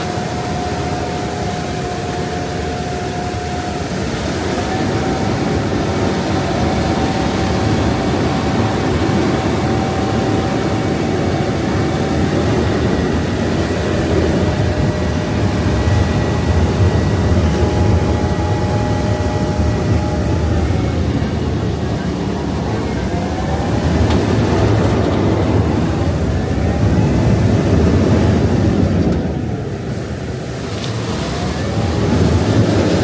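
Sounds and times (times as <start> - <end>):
boat engine rumble: 0.0 - 33.0
rush of water: 0.0 - 33.0
thin engine whine: 0.0 - 33.0.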